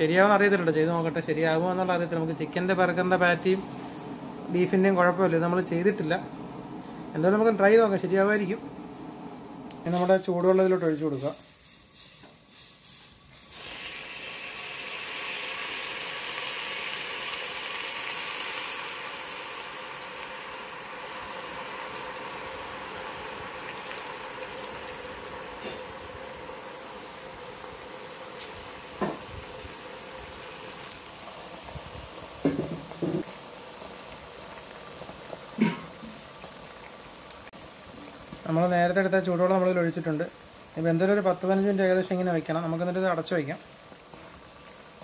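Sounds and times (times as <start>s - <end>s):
water sizzling in hot pot: 0.0s - 45.0s.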